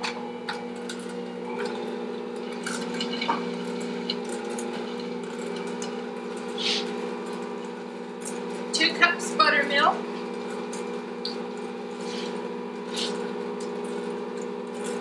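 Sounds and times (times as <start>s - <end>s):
stand mixer motor hum: 0.0s - 15.0s.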